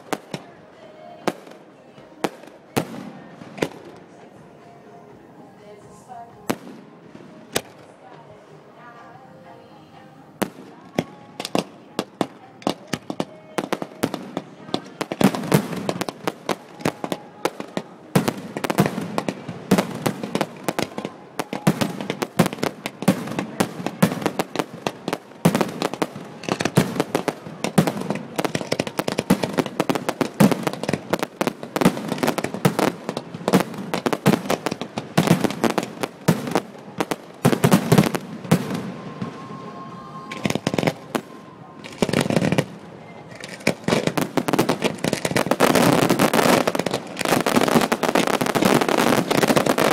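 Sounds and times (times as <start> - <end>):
fireworks bangs and crackles: 0.0 - 4.4, 6.5 - 8.3, 10.4 - 49.9.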